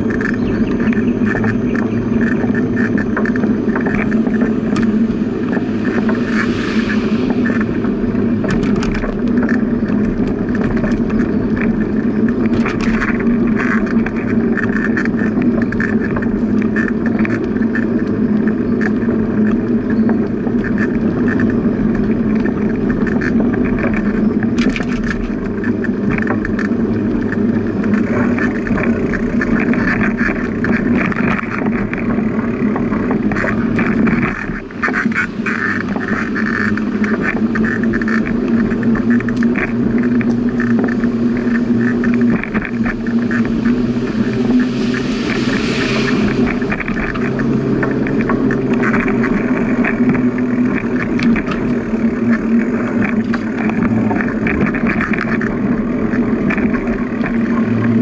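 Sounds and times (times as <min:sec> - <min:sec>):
bicycle rolling: 0:00.0 - 0:58.0.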